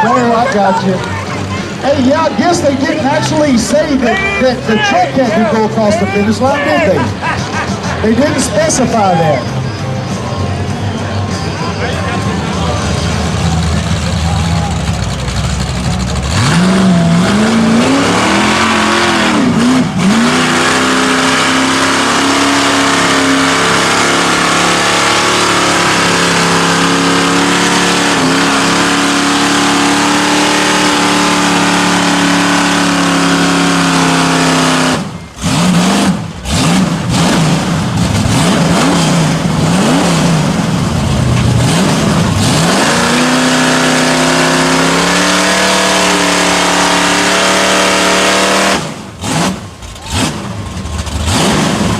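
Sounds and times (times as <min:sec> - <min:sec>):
truck engine revving hard: 0:00.0 - 0:51.9.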